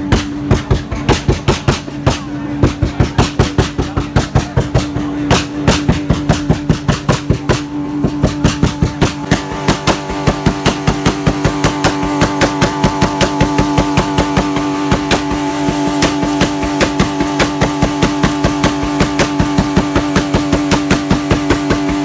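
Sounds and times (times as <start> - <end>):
engine stuttering at high revs: 3.5 - 22.0.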